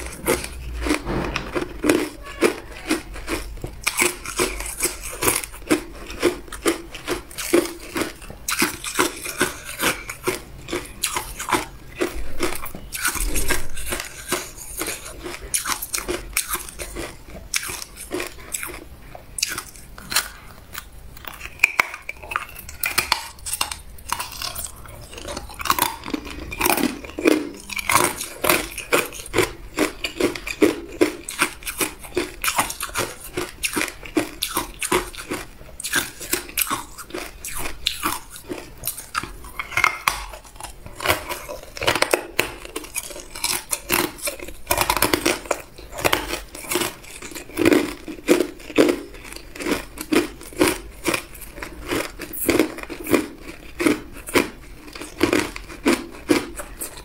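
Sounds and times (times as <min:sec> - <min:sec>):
person crunching ice: 0:00.0 - 0:57.0.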